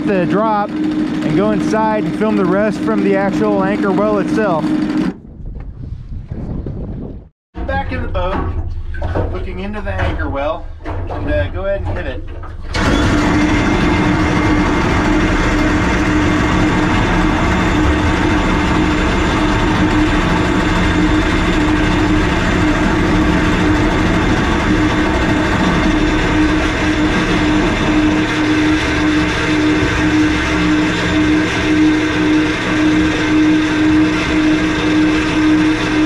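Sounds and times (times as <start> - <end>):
anchor windlass motor hum: 0.0 - 36.0.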